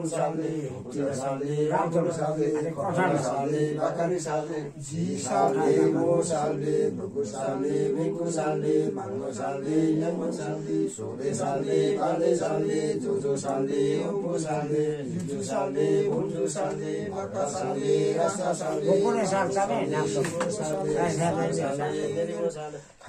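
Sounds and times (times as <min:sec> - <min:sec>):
men chanting together: 0:00.0 - 0:23.0.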